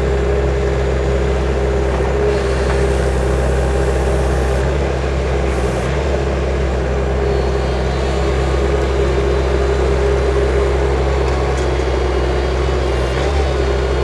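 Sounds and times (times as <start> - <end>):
skid steer loader engine droning: 0.0 - 14.0.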